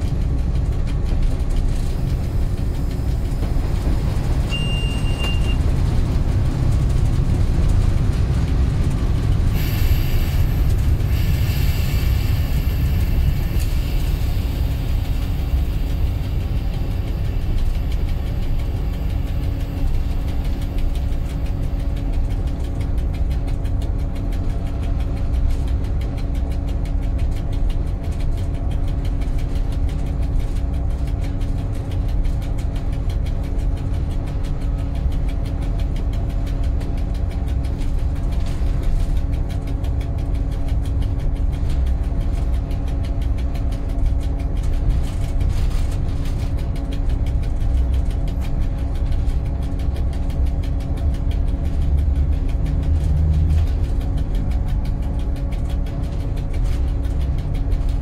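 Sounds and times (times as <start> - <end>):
diesel locomotive engine droning: 0.0 - 58.0.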